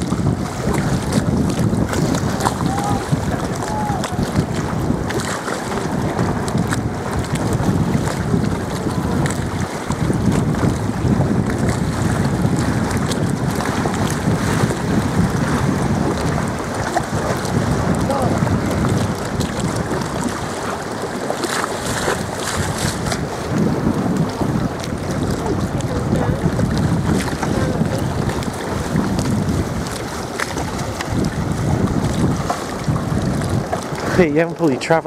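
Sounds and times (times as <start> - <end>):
water lapping against boat hull: 0.0 - 35.0
wind buffeting microphone: 0.0 - 35.0.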